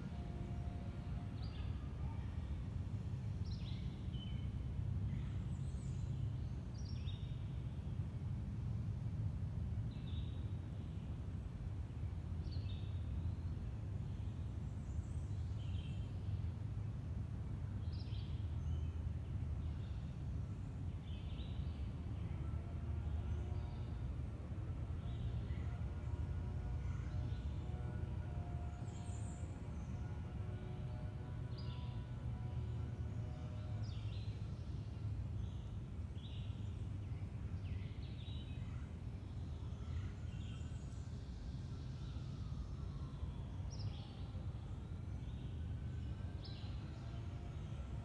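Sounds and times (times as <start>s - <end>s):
low background rumble: 0.0s - 48.0s.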